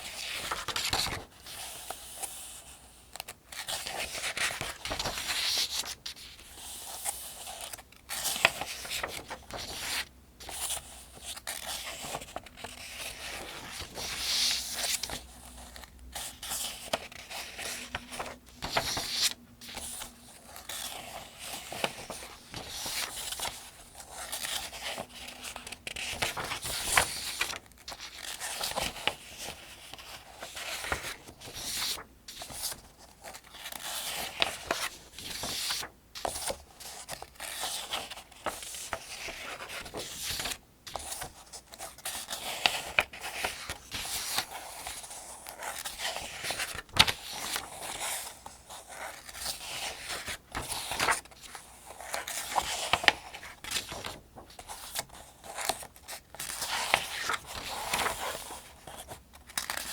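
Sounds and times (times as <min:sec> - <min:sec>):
paper pages turning: 0:00.1 - 0:02.5, 0:03.1 - 0:59.9.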